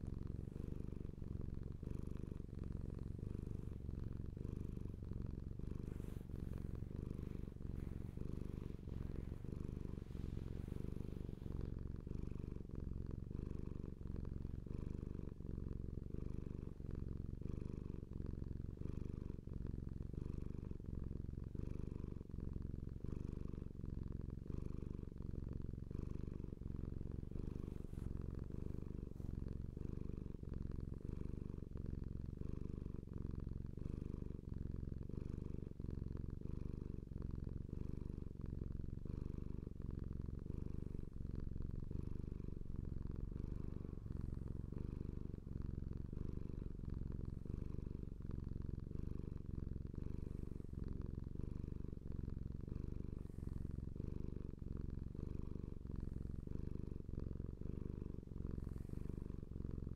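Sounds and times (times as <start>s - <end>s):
cat purring: 0.0s - 59.9s.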